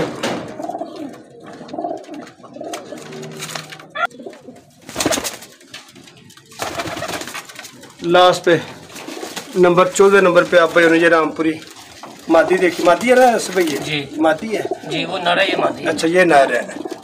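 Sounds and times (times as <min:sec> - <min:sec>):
pigeons cooing: 0:00.0 - 0:10.0, 0:11.6 - 0:17.0
wings flapping and rustling: 0:00.1 - 0:14.8.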